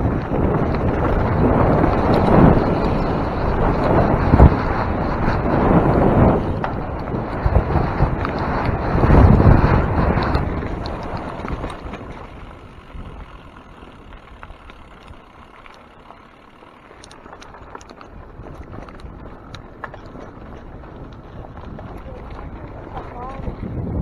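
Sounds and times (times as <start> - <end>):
wind on microphone: 0.0 - 15.3, 17.0 - 24.0
bike clicks and rattles: 0.0 - 24.0
bike tyres rolling: 0.0 - 24.0.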